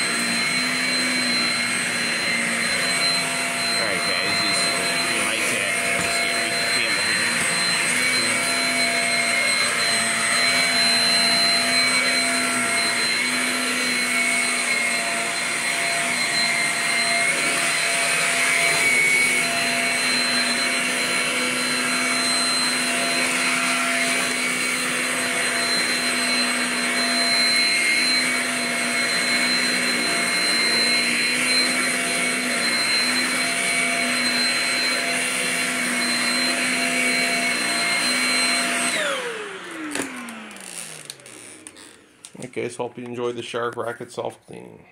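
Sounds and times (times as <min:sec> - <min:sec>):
vacuum cleaner running on carpet: 0:00.0 - 0:42.1.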